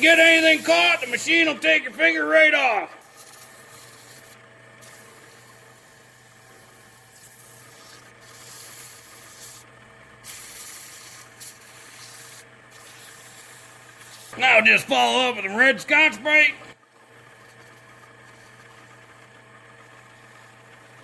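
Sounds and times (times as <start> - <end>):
drill press motor hum: 0.0 - 21.0.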